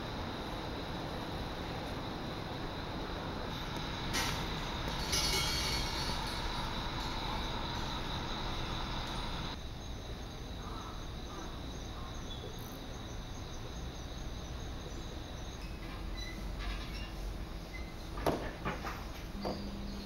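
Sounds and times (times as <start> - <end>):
city traffic hiss: 0.0 - 20.0
insect chorus: 0.0 - 20.0.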